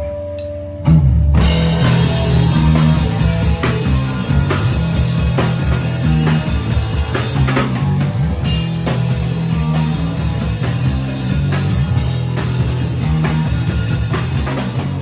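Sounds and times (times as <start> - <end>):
punk band playing loud: 0.0 - 15.0.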